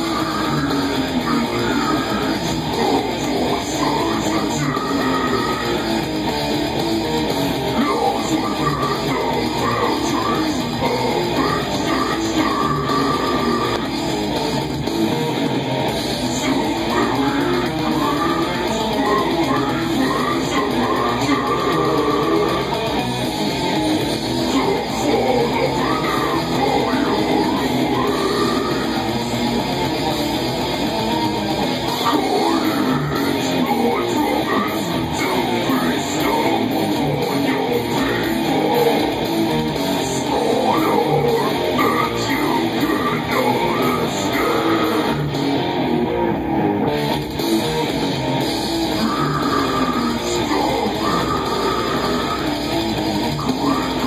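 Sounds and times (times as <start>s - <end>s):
growled death metal vocals: 0.0s - 54.0s
heavy metal music: 0.0s - 54.0s.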